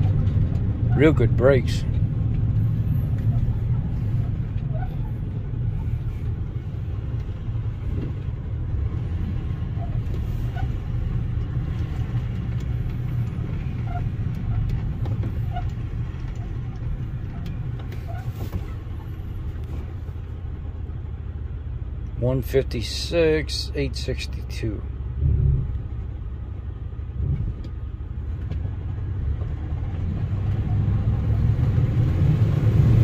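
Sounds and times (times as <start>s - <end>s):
truck driving low rumble: 0.0s - 33.0s.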